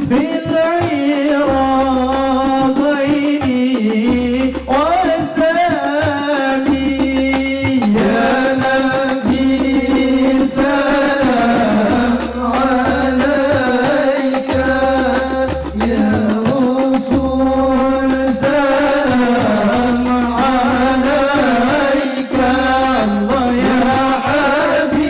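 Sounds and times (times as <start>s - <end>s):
person singing devotional song: 0.0s - 25.0s.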